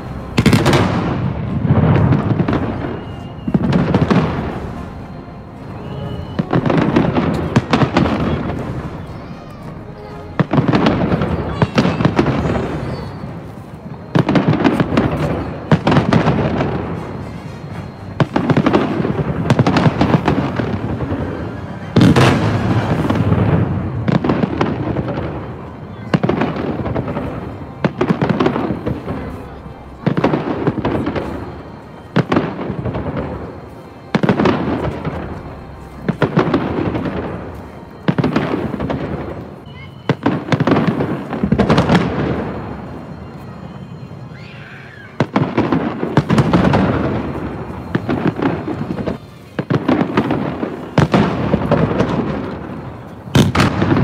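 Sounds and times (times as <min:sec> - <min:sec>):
fireworks booming: 0:00.0 - 0:54.0
fireworks crackling: 0:00.0 - 0:54.0.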